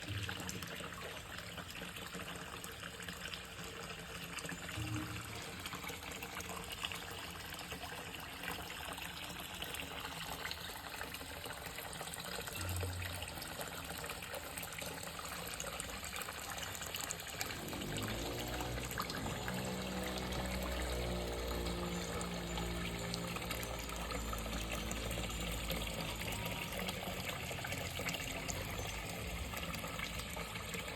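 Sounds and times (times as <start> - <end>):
water falling and trickling: 0.0 - 30.9.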